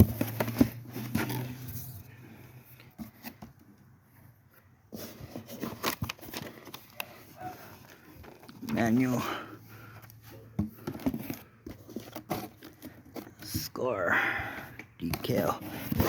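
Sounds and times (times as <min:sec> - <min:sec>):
cardboard scraping: 0:00.0 - 0:09.1, 0:09.8 - 0:13.8, 0:15.0 - 0:16.0
cardboard rustling: 0:00.0 - 0:13.8, 0:14.7 - 0:16.0.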